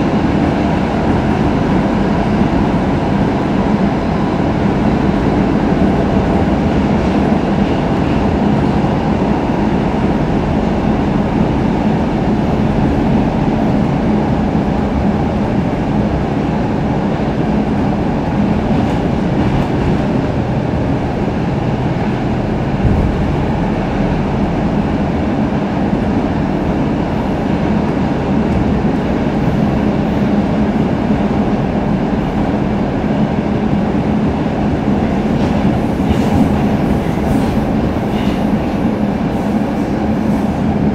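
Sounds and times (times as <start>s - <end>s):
subway wheels rumbling on rail: 0.0s - 40.9s.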